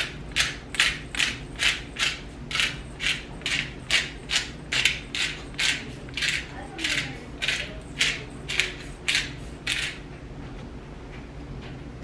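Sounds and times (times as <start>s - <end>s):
seasoning grinder rasping: 0.0s - 10.0s.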